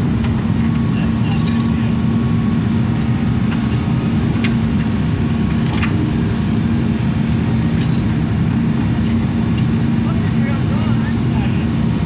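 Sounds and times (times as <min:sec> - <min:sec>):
diesel excavator engine running: 0:00.0 - 0:12.0.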